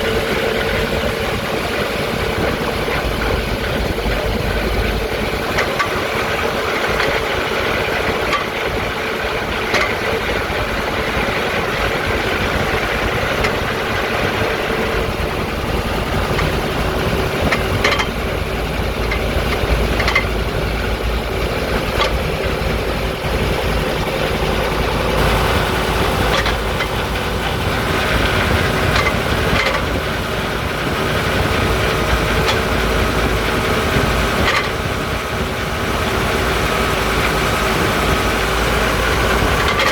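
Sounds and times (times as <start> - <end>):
coach engine drone: 0.0 - 39.9
knocks and rattles: 0.0 - 39.9.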